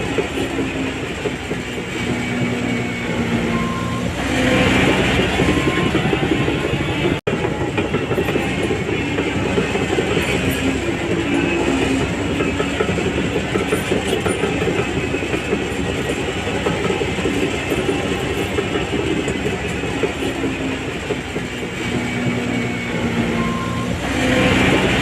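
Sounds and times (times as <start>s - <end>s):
bulldozer diesel engine: 0.0s - 25.0s
steel tracks clattering: 0.0s - 25.0s.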